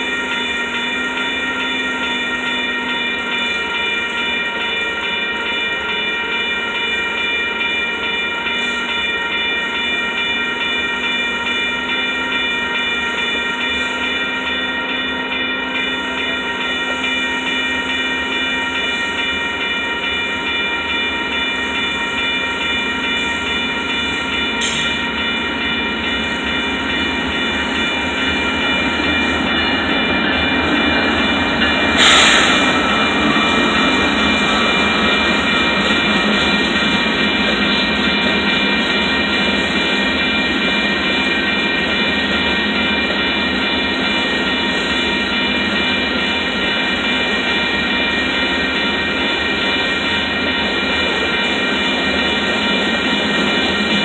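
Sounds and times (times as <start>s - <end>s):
diesel train rumble: 0.0s - 54.0s
high ringing tones: 0.0s - 54.0s.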